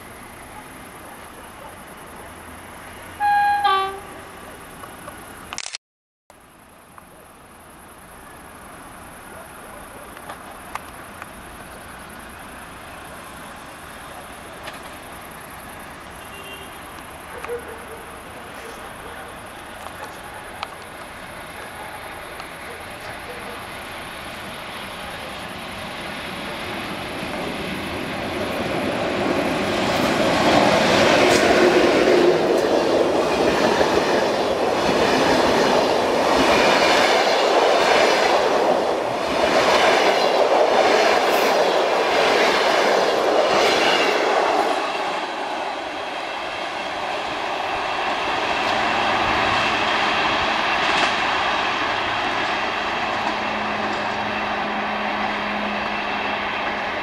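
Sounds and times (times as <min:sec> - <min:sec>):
train passing at speed: 0:00.0 - 0:05.5, 0:06.7 - 0:57.0.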